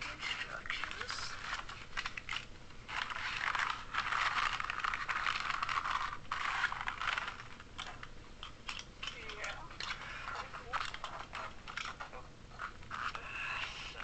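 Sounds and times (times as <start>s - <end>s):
lego pieces rattling and clicking: 0.0s - 13.9s.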